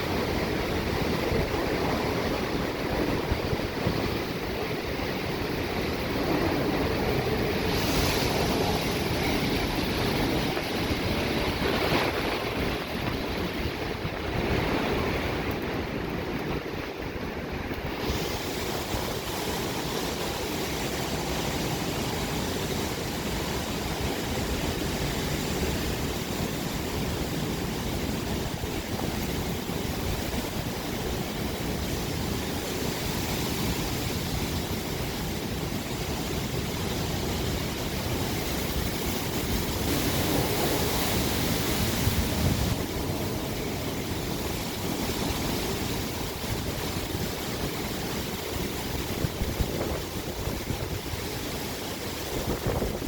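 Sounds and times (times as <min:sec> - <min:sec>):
strong wind rushing: 0:00.0 - 0:53.0.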